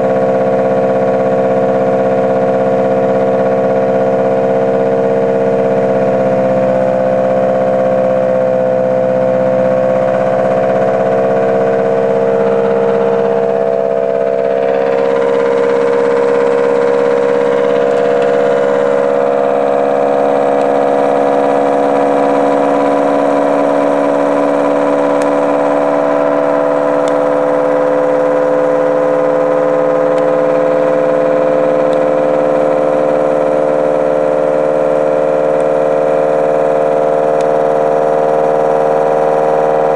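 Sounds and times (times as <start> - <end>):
motor generator electrical whine: 0.0 - 39.9.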